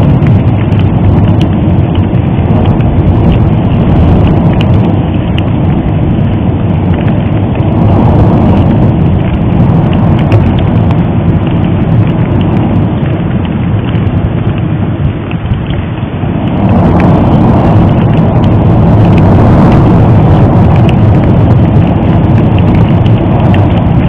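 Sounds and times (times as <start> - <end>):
crackles and pops: 0.0 - 24.0
volcano rumbling: 0.0 - 24.0.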